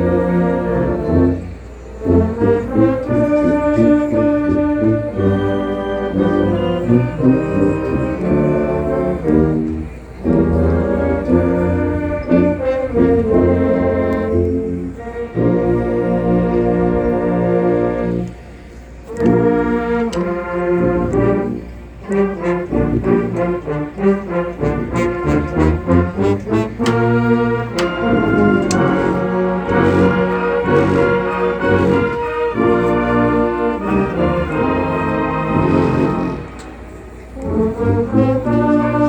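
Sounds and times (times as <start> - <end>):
marching band brass playing: 0.0 - 39.0.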